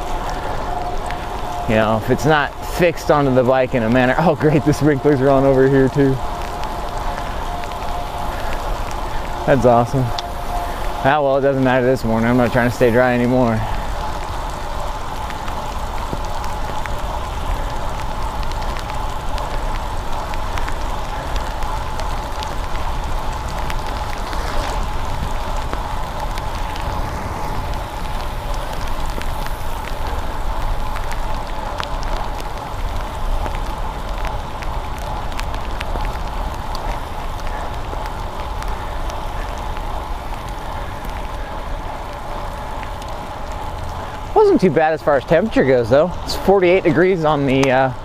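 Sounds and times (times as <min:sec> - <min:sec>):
wind rumble on microphone: 0:00.0 - 0:44.4
raindrops ticking on camera: 0:00.0 - 0:48.0
tyre spray and rain: 0:00.0 - 0:48.0.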